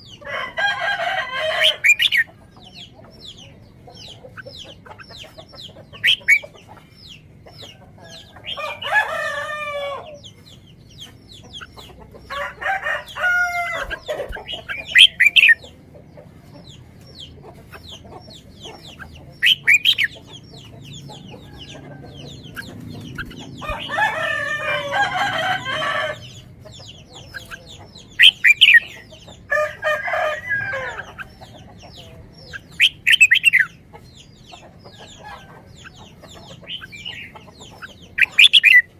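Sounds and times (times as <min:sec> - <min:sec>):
chickens calling: 0:00.0 - 0:38.9.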